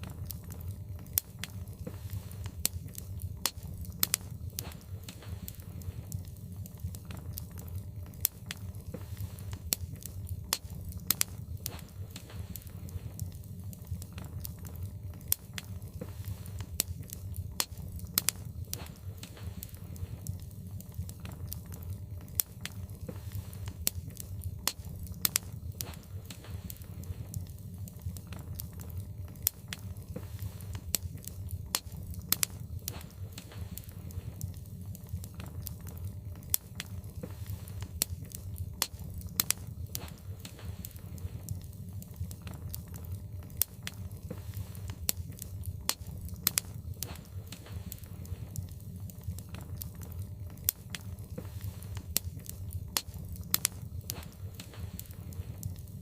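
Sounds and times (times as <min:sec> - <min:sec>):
low fire rumble: 0:00.0 - 0:56.0
wood fire crackling: 0:00.0 - 0:56.0.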